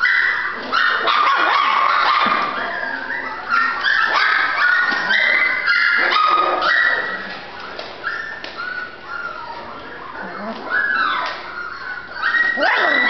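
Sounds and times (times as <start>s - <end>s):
puppies whining and yelping: 0.0s - 13.0s.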